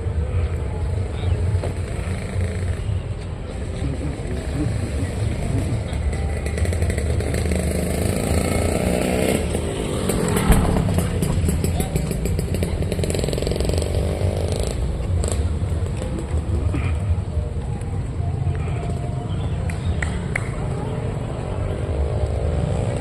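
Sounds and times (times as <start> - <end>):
motorcycle engines passing: 0.0 - 23.0
street traffic: 0.0 - 23.0.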